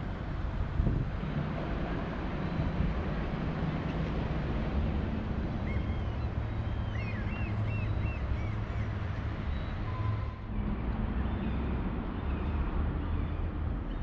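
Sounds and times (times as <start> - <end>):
boat engine humming: 0.0 - 12.3.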